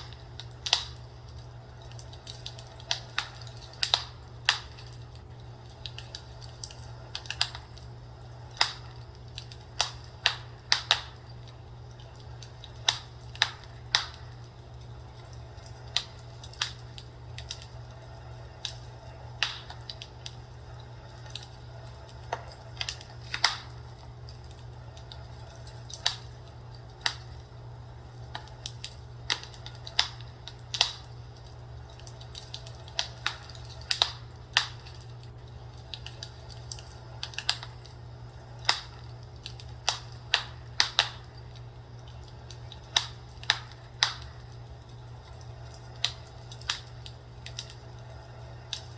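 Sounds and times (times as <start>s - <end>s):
fireplace crackling: 0.0s - 48.9s
steady low hum: 0.0s - 48.9s.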